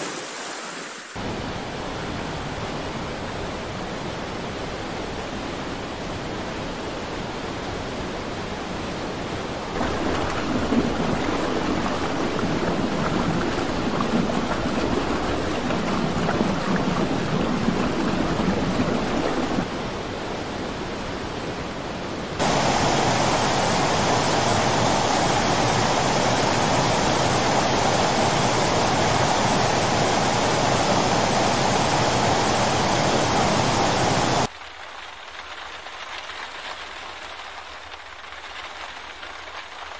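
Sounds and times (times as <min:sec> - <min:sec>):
rushing floodwater: 0:00.0 - 0:34.5
heavy rain: 0:00.0 - 0:39.9.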